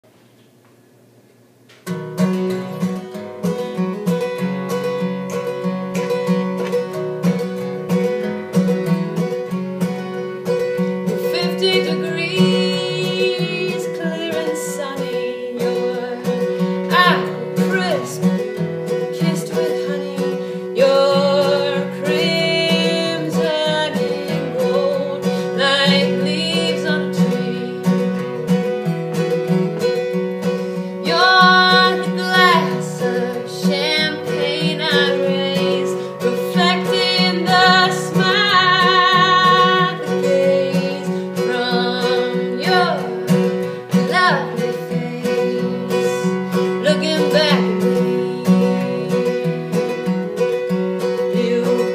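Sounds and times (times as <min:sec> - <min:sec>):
strummed acoustic guitar: 0:01.8 - 0:51.9
woman singing folk song: 0:02.1 - 0:51.9.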